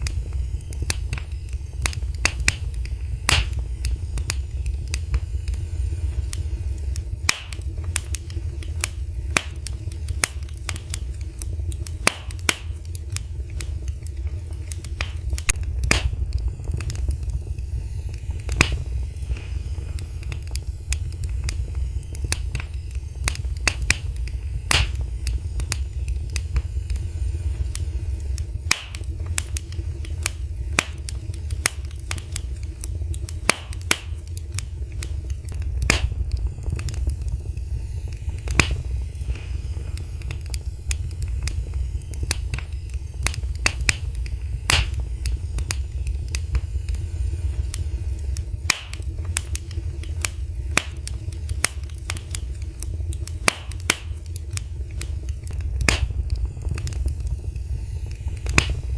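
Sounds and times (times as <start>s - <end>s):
low rumble: 0.0s - 58.9s
wood fire crackling: 0.0s - 58.9s.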